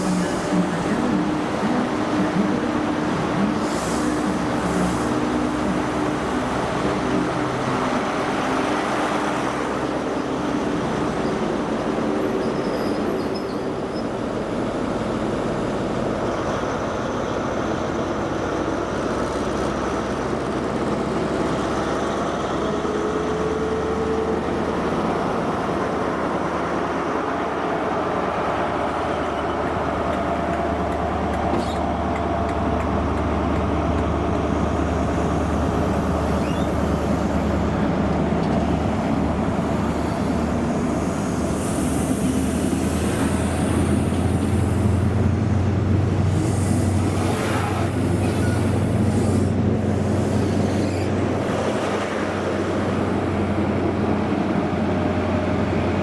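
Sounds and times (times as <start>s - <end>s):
diesel train deep hum: 0.0s - 56.0s
train coaches rolling past: 0.0s - 56.0s.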